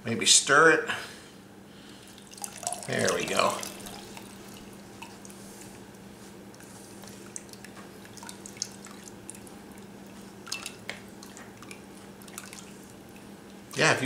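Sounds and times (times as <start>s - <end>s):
faint steady hum: 0.0s - 14.0s
liquid dripping through strainer: 2.0s - 13.8s.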